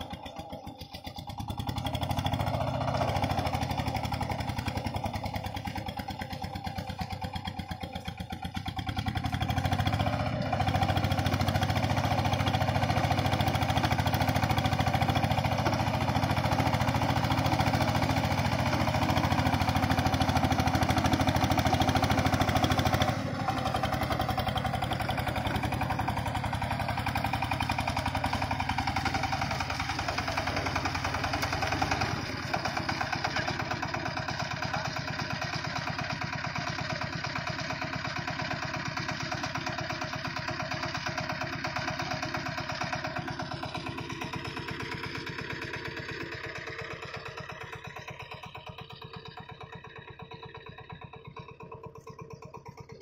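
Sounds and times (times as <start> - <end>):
diesel tiller engine running: 0.0 - 53.0
wheels churning through mud: 0.0 - 53.0.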